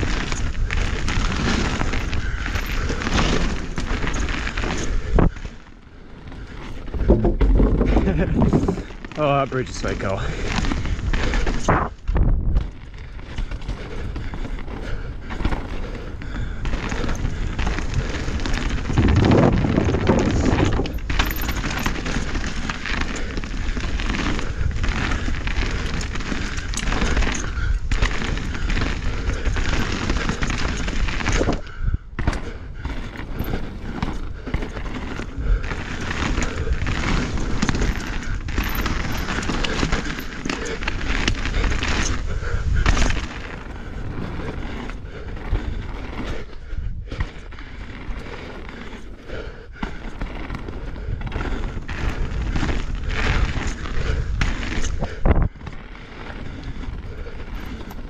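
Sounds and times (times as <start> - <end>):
bike knocking and rattling: 0.0 - 58.0
tyres rushing on dirt: 0.0 - 58.0.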